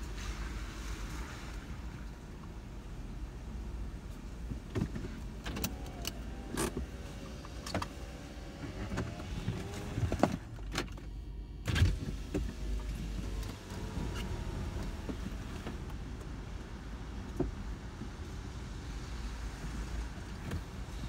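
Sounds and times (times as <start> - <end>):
low rumble inside car: 0.0 - 21.0.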